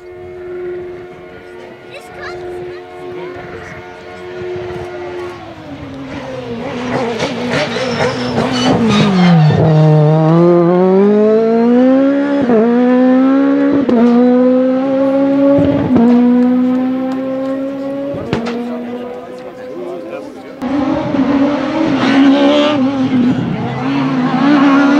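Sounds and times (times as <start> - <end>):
car engine revving: 0.0 - 24.9
exhaust crackling: 0.0 - 24.9.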